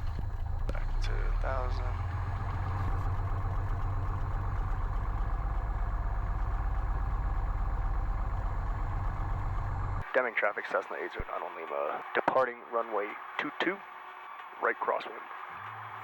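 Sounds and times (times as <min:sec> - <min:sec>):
aircraft engine running: 0:00.0 - 0:16.0.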